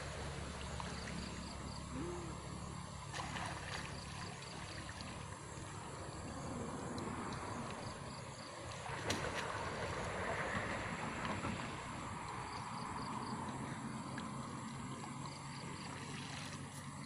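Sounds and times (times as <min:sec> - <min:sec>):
water sloshing and splashing: 0:00.0 - 0:01.9, 0:02.7 - 0:17.0.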